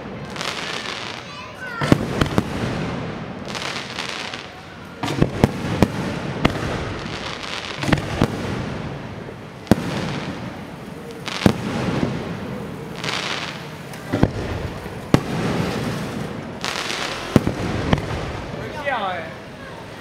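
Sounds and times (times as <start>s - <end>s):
fireworks bangs: 0.0s - 19.6s
fireworks crackling hiss: 0.0s - 20.0s.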